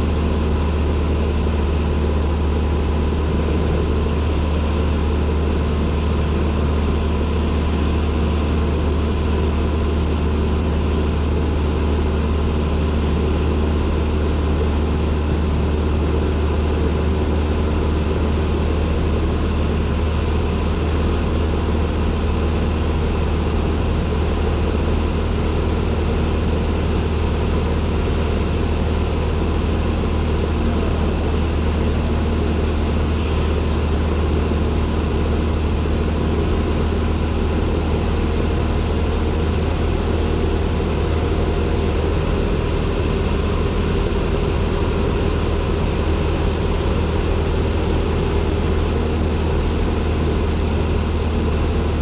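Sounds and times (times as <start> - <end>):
plane engine and propeller droning: 0.0 - 52.0.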